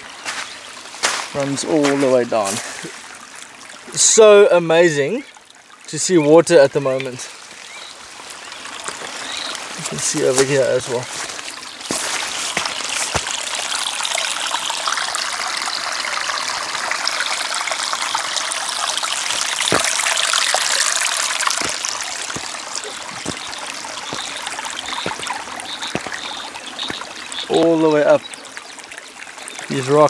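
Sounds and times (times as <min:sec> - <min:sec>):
stream splashing over rocks: 0:00.0 - 0:30.0.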